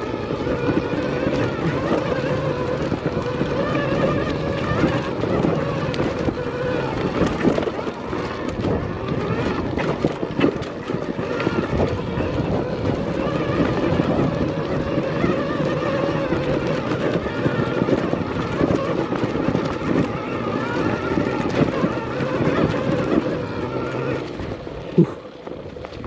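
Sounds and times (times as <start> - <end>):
drivetrain and tyre noise: 0.0 - 26.0
electric motor whine: 0.0 - 26.0.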